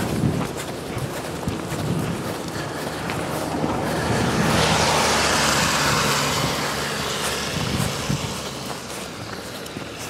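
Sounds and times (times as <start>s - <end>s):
car passing on wet road: 0.0s - 10.0s.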